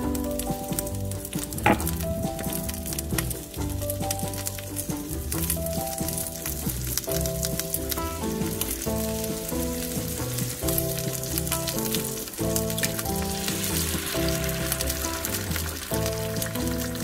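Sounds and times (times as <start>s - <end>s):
background music with melody: 0.0s - 17.0s
food sizzling in a frying pan: 0.3s - 17.0s.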